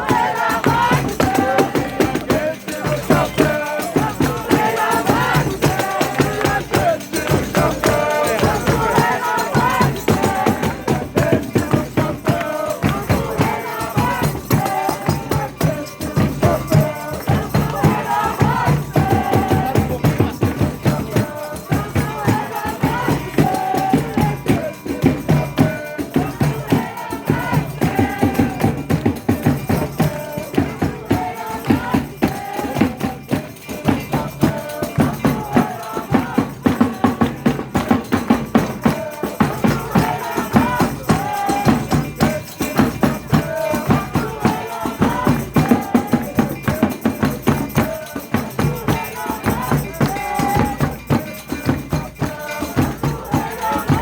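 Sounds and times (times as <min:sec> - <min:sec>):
tambourines beating: 0:00.0 - 0:54.0.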